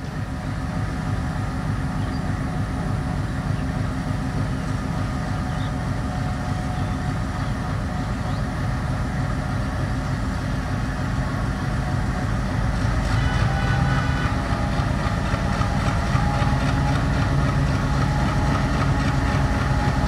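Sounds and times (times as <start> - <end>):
diesel locomotive engine humming: 0.0 - 20.0.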